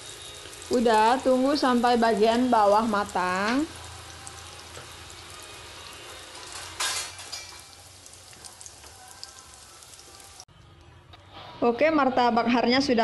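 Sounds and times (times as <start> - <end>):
food sizzling in oil: 0.0 - 10.5.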